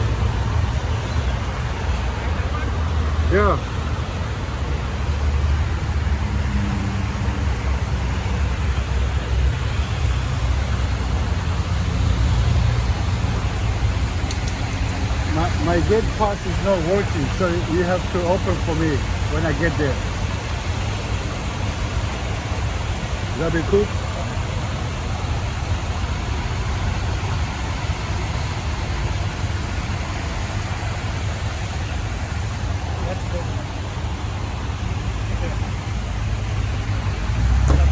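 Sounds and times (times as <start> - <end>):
road noise: 0.0 - 37.9
vehicle engine rumble: 0.0 - 37.9.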